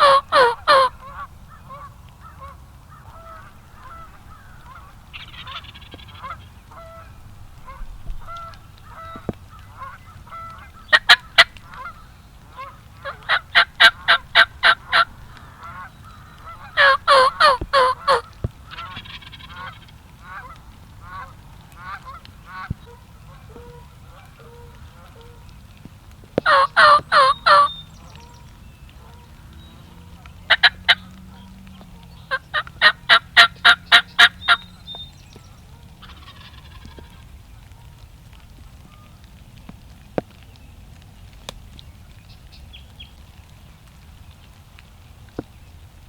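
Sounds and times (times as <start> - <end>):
large fowl calling: 0.0 - 25.5, 26.4 - 39.2
quiet birdsong: 0.0 - 46.0.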